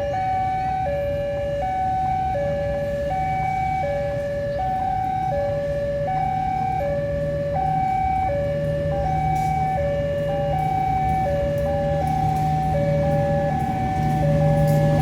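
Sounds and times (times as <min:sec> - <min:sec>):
two-tone warning alarm: 0:00.0 - 0:15.0.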